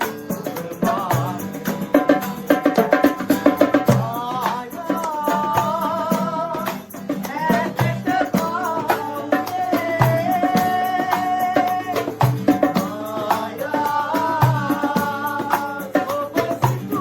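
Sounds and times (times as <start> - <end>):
background music with drum beat: 0.0 - 17.0.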